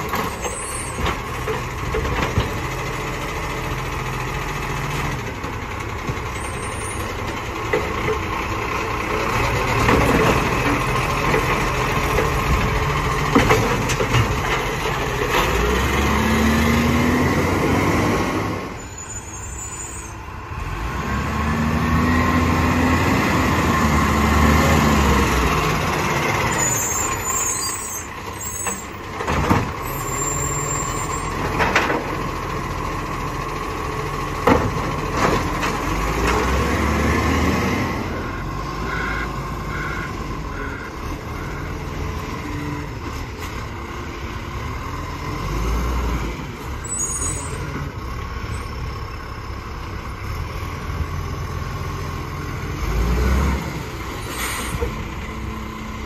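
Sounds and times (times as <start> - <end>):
diesel truck engine revving: 0.0 - 56.0.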